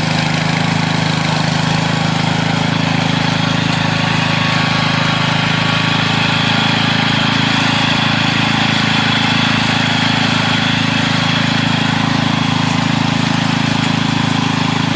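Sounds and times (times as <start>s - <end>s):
string trimmer engine running: 0.0s - 14.9s.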